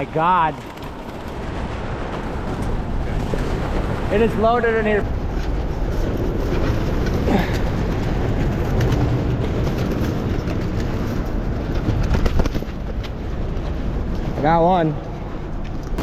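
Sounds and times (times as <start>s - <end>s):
pigeons flapping wings: 0.0s - 14.2s.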